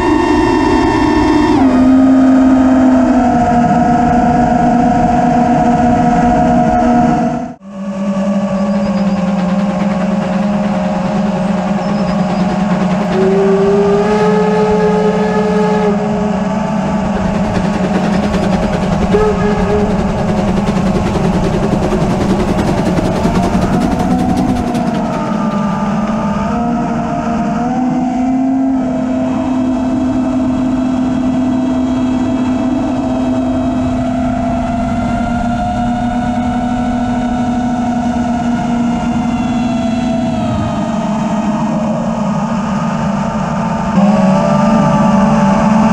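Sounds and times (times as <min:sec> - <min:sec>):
quadcopter motors whining: 0:00.0 - 0:45.9.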